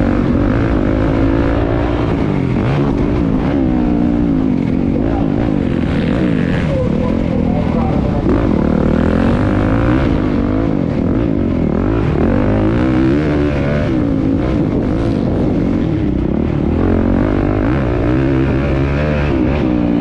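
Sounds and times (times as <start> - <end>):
motocross bikes revving: 0.0 - 20.0
steady low drone: 0.0 - 20.0.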